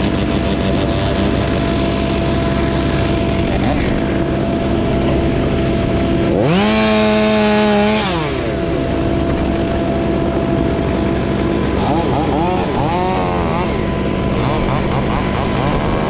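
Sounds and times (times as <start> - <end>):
chainsaw revving: 0.0 - 16.0
engine running steadily: 0.0 - 16.0.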